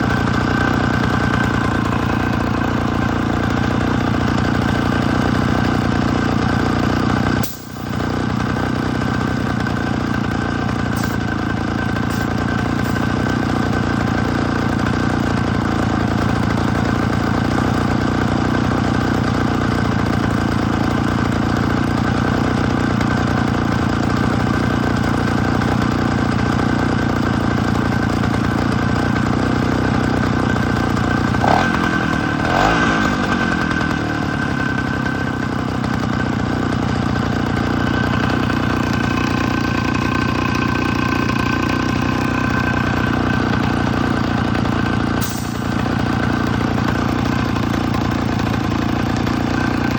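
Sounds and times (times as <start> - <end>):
two-stroke engine running: 0.0 - 49.9.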